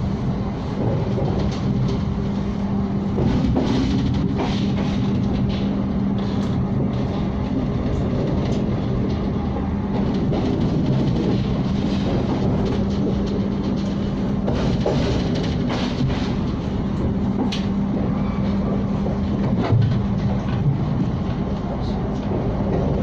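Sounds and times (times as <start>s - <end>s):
train rumble and hum: 0.0s - 23.0s
wheels clacking on rails: 0.0s - 23.0s.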